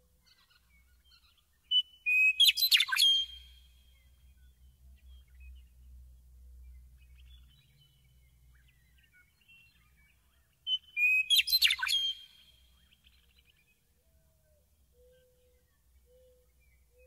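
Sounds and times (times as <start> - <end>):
faint distant bird chirps: 0.0 - 17.0
meadowlark song: 0.0 - 17.0.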